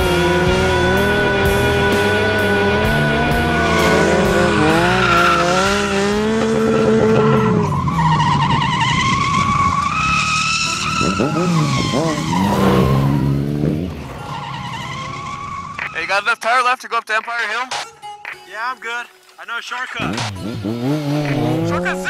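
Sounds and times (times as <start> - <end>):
motorcycle engines revving: 0.0 - 16.0, 20.0 - 22.0
tyres skidding on asphalt: 0.0 - 16.4, 19.2 - 22.0.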